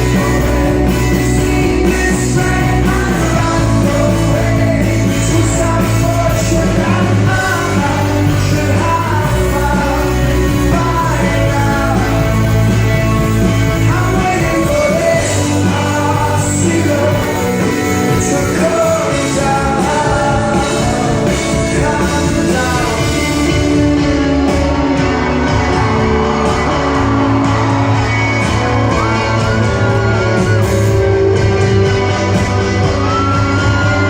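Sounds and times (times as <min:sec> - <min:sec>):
lead singer: 0:00.0 - 0:34.0
rock band playing live: 0:00.0 - 0:34.0.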